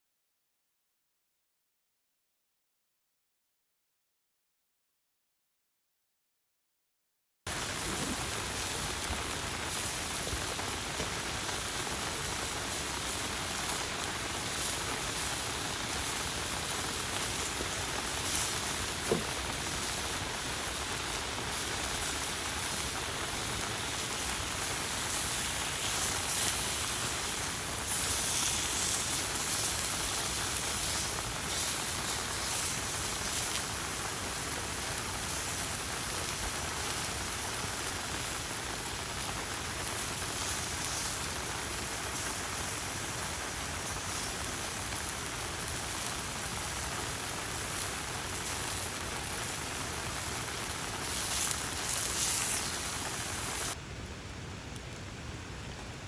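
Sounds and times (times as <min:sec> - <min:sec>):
steady rain falling: 0:07.5 - 0:56.0.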